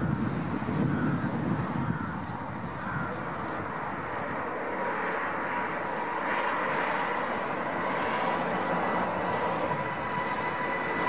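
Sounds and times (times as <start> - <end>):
jet engine roar at takeoff: 0.0 - 11.0
thin jet engine whine: 0.0 - 11.0.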